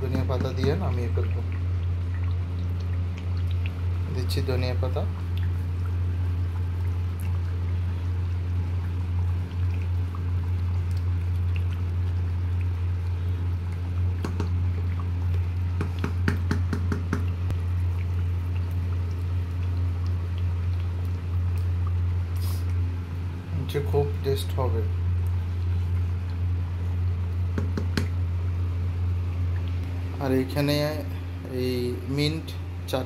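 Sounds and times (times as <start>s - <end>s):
curry bubbling in a pot: 0.0s - 32.9s.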